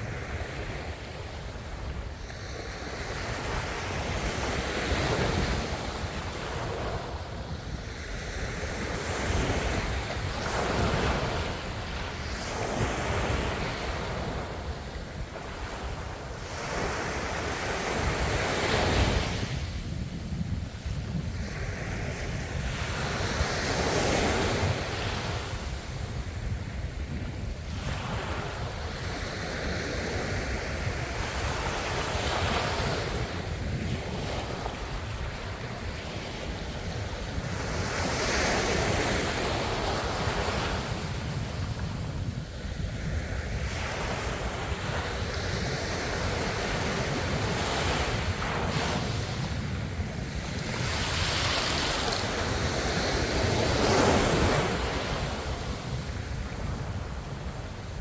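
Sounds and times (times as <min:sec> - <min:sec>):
low rumble of surf: 0:00.0 - 0:58.0
waves breaking on shore: 0:00.0 - 0:58.0.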